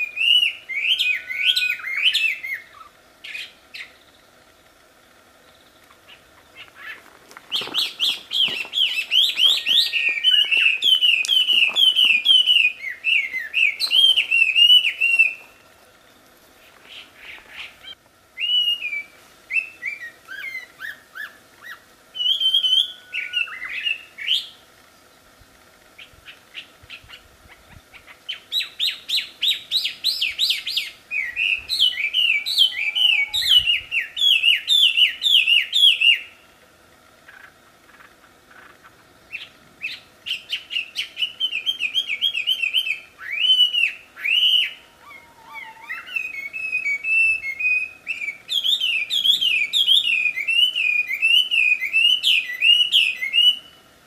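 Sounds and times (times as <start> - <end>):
bird singing whistled notes: 0.0 - 4.2, 5.6 - 15.6, 16.9 - 24.6, 28.0 - 36.4, 39.3 - 53.8.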